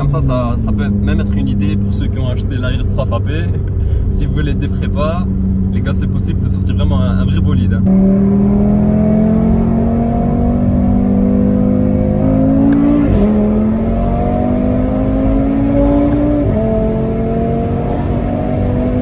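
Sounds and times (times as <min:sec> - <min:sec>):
car engine accelerating with upshifts: 0:00.0 - 0:19.0.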